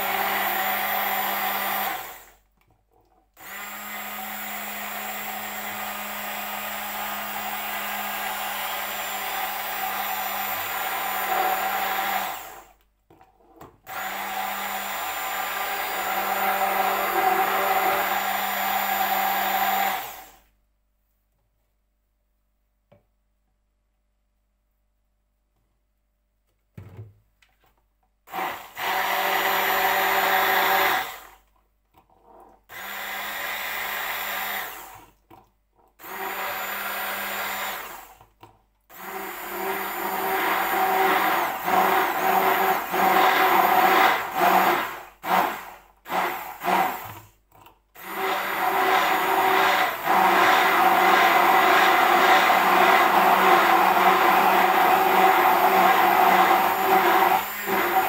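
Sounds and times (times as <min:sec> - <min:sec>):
immersion blender whirring: 0:00.0 - 0:02.4, 0:03.4 - 0:12.8, 0:13.6 - 0:20.5, 0:28.3 - 0:31.5, 0:32.2 - 0:35.2, 0:35.9 - 0:47.4, 0:48.0 - 0:58.0.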